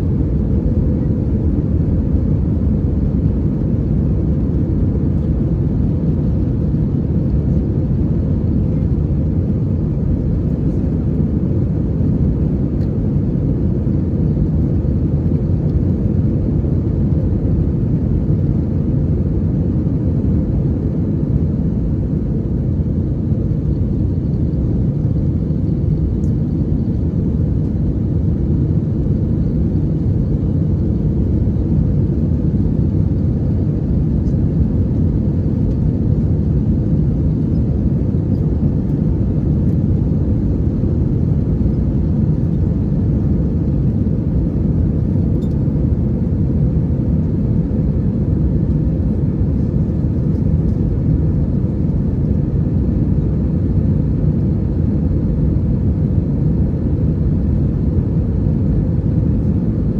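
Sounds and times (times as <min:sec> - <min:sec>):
airplane cabin engine and airflow noise: 0:00.0 - 0:59.9.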